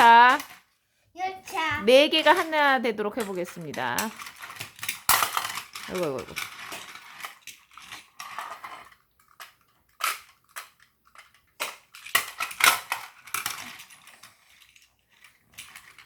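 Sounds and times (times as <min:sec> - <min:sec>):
plastic toy train cars clicking: 0:00.0 - 0:00.7, 0:01.4 - 0:16.0.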